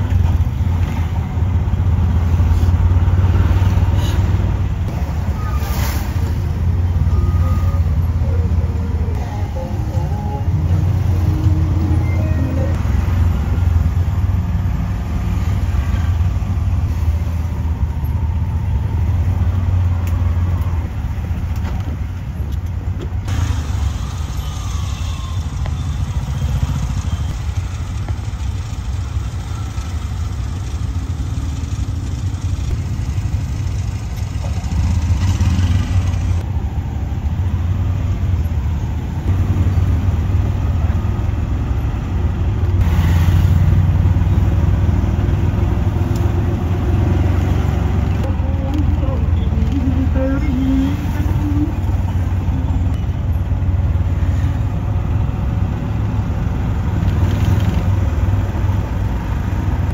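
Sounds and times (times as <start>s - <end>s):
city traffic: 0.0s - 59.9s.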